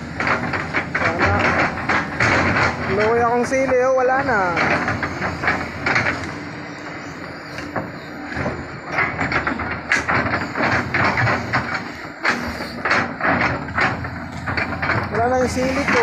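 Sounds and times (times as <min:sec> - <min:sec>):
excavator bucket clanks: 0:00.0 - 0:16.0
excavator engine droning: 0:00.0 - 0:16.0.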